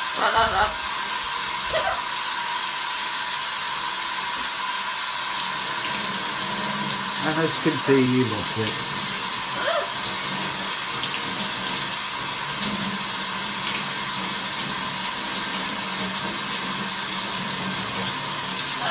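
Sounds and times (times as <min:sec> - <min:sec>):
shower spray hissing: 0:00.0 - 0:18.9.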